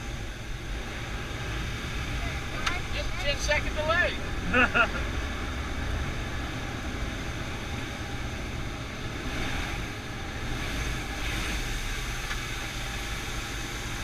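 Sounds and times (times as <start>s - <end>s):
airflow noise: 0.0s - 14.0s
airplane engine drone: 0.0s - 14.0s.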